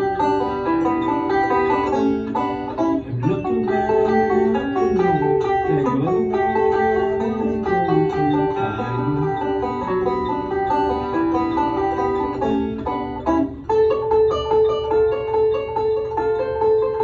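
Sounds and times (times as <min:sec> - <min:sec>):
picked guitar music: 0:00.0 - 0:17.0.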